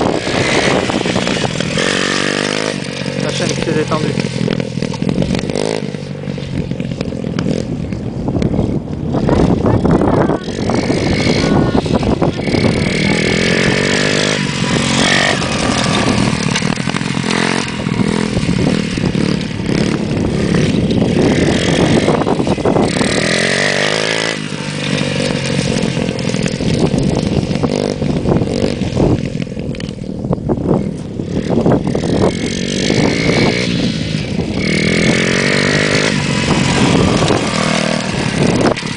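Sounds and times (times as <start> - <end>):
motocross bike engine revving: 0.0 - 7.9, 9.2 - 29.9, 30.5 - 38.9.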